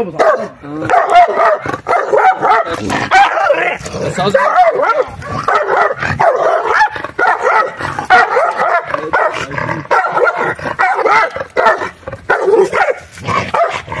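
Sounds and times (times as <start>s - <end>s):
dog barking and growling: 0.0s - 14.0s.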